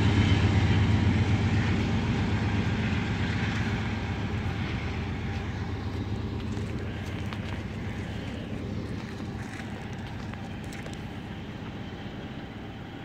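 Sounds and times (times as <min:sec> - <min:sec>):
diesel locomotive engine drone: 0:00.0 - 0:13.0
freight train rumbling on rails: 0:00.0 - 0:13.0.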